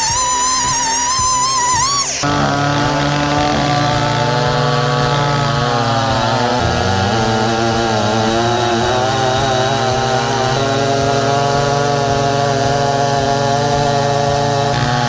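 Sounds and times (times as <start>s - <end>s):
chainsaw running at high speed: 0.0s - 15.0s.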